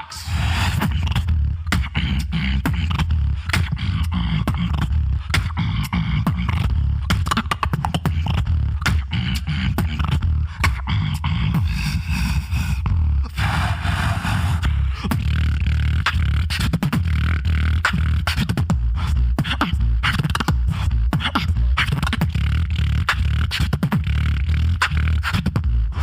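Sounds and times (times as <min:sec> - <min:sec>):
beatboxing into microphone: 0:00.0 - 0:26.0
deep bass line: 0:00.0 - 0:26.0.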